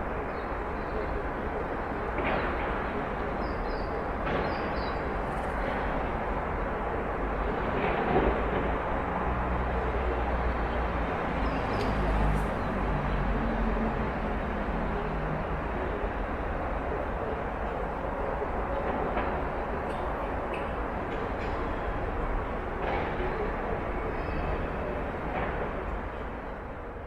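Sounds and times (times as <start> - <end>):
distant traffic rumble: 0.0 - 27.0.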